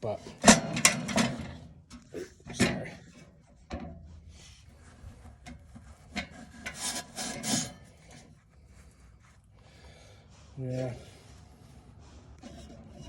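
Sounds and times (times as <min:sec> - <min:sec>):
hard parts scraping by hand: 0:00.3 - 0:09.5, 0:11.1 - 0:13.0.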